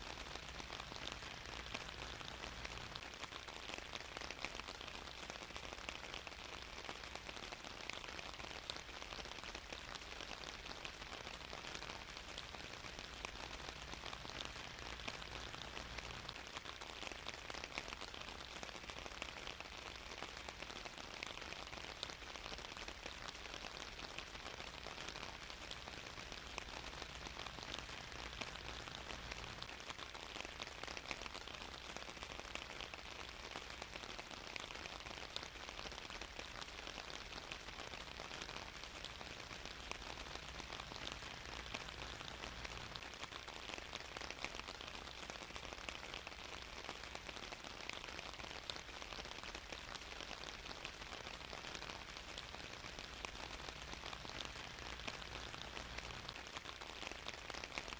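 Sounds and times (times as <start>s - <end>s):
rain hissing on a surface: 0.0s - 57.9s.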